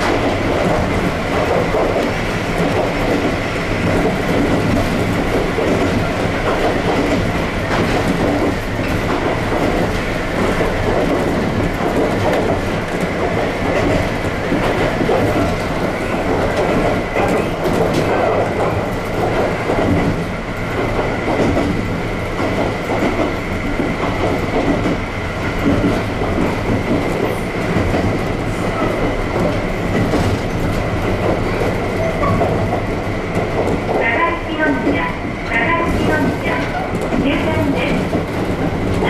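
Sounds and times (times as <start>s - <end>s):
train running noise: 0.0s - 39.0s.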